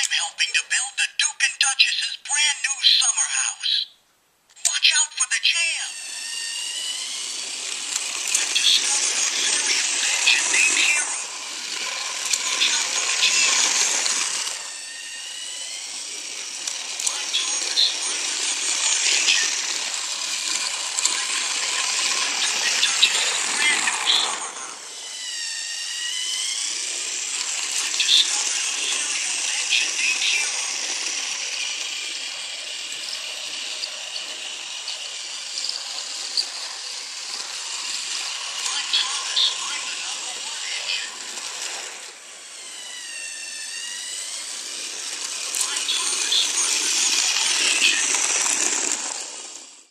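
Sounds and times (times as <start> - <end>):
toy train motor whirring: 0.0 - 0.8, 4.5 - 49.9
thin whine: 5.6 - 49.9
wheels clicking on track: 6.0 - 49.9.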